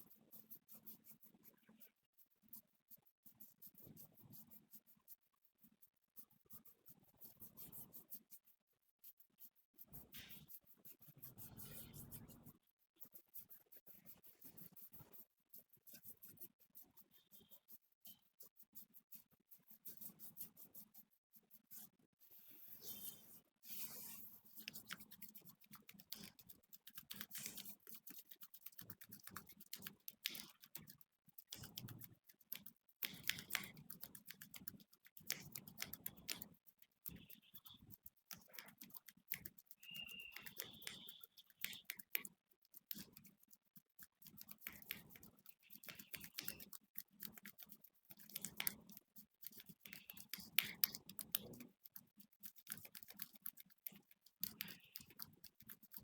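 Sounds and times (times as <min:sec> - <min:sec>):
fingers scratching through hair: 0:00.0 - 0:56.0.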